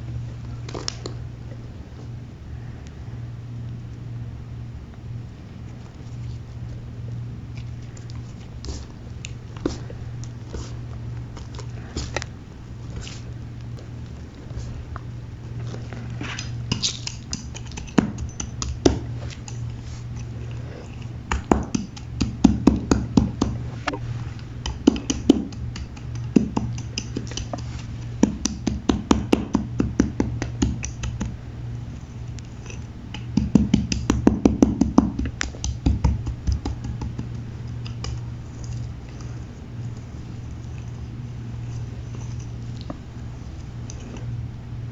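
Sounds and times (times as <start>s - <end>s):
steady low hum: 0.0s - 44.9s
chalk crushing and crackling: 5.5s - 44.4s.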